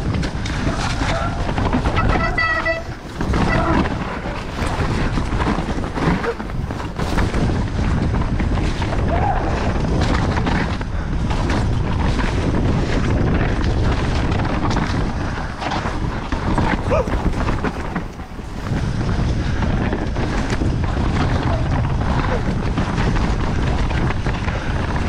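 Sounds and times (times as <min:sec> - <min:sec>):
bike knocking and rattling: 0:00.0 - 0:25.0
wind buffeting microphone: 0:00.0 - 0:25.0.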